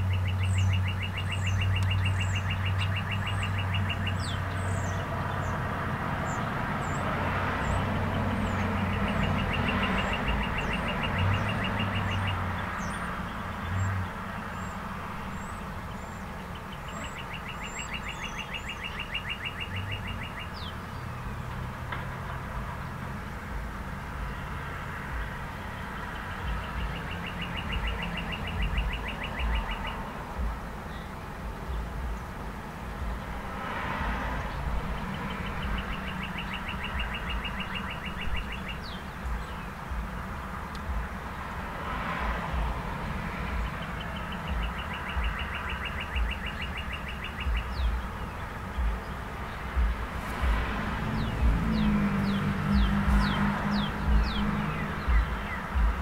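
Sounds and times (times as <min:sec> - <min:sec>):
birds chirping: 0:00.0 - 0:56.0
road traffic hum: 0:00.0 - 0:56.0
vehicle passing: 0:00.0 - 0:56.0.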